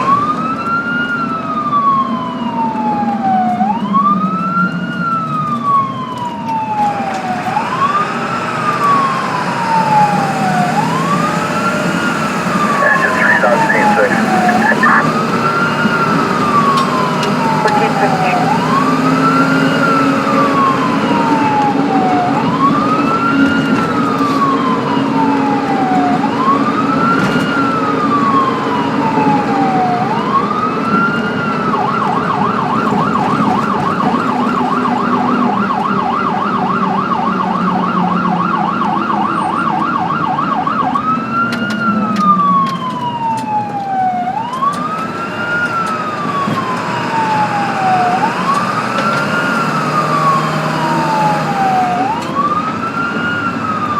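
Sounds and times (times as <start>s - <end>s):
ambulance siren wailing and yelping: 0.0s - 53.9s.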